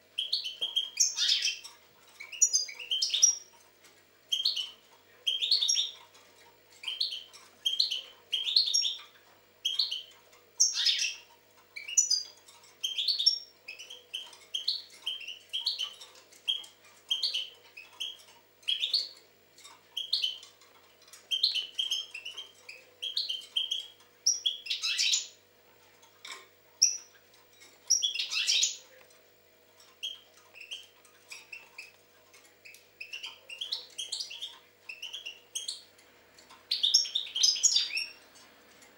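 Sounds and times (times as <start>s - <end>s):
faint steady hum: 0.0s - 38.9s
goldfinch singing: 0.2s - 3.6s, 4.3s - 6.0s, 6.8s - 19.2s, 19.9s - 25.4s, 26.8s - 29.0s, 29.8s - 32.0s, 32.6s - 38.2s.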